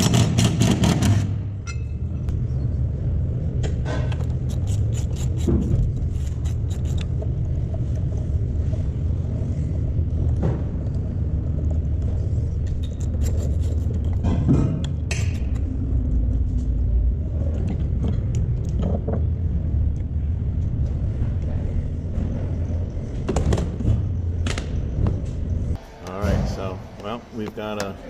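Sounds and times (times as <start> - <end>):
low rumble: 1.8 - 4.6, 5.4 - 27.0.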